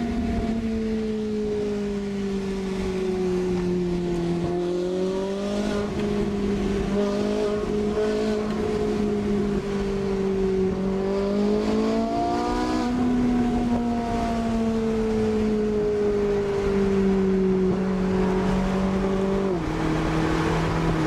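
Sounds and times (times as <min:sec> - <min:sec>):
car engine running in tunnel: 0:00.0 - 0:21.0.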